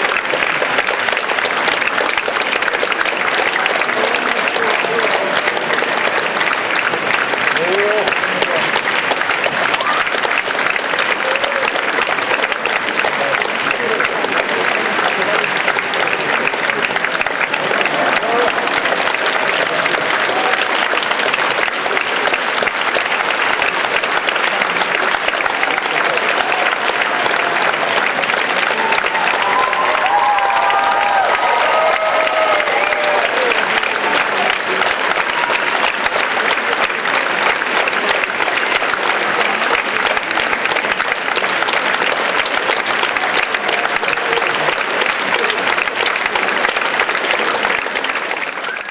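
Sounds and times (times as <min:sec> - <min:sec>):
audience applauding: 0:00.0 - 0:48.9.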